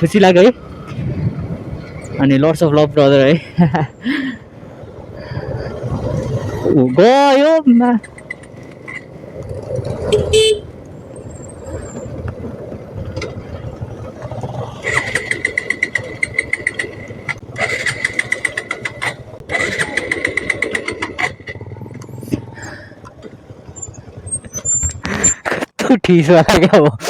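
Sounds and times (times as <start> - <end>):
highway traffic rumbling: 0.0 - 27.0.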